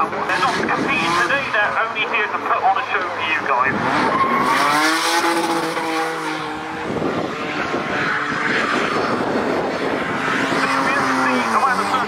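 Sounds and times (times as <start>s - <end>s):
car engine revving: 0.0s - 12.0s
tyres skidding: 0.0s - 12.0s.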